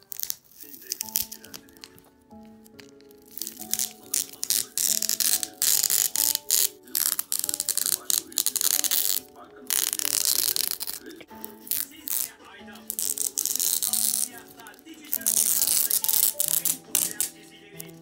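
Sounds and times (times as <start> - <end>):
soft piano-like music: 0.0 - 18.0.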